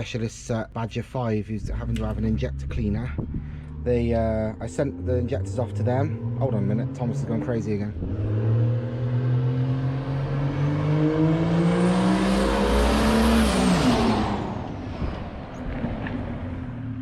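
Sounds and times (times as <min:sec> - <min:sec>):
van accelerating and passing: 0:01.6 - 0:17.0.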